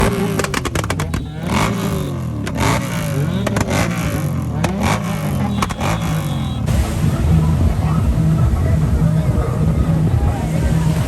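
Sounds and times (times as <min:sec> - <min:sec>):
motorcycle engines revving: 0:00.0 - 0:11.0
sharp exhaust cracks: 0:00.0 - 0:11.0.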